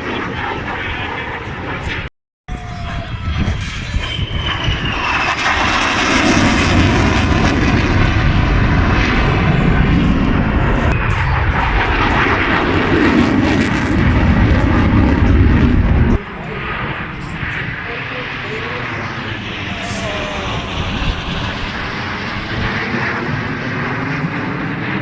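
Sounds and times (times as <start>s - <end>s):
aircraft engine roaring: 0.0s - 25.0s
falling whine: 2.5s - 25.0s.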